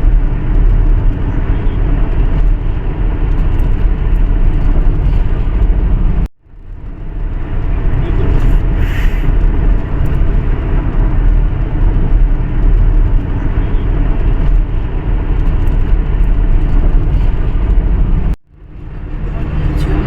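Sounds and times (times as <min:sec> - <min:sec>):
moving car rumble: 0:00.0 - 0:20.0.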